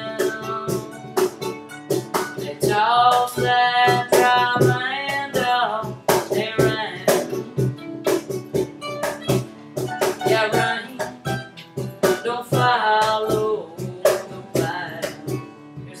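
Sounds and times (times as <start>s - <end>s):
person singing: 0.0s - 1.5s, 2.2s - 7.7s, 9.9s - 16.0s
acoustic guitar strumming: 0.0s - 16.0s.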